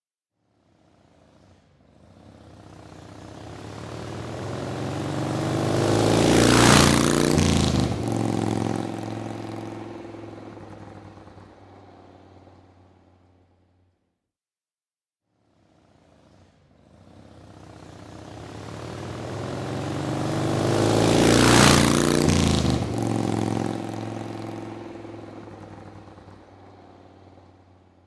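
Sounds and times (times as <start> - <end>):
motorcycle driving past: 0.6 - 13.9, 15.4 - 28.0.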